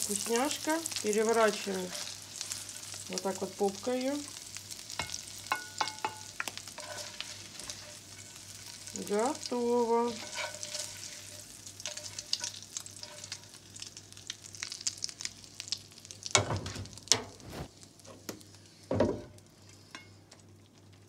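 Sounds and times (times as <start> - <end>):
hot fat crackling and sizzling: 0.0 - 21.0.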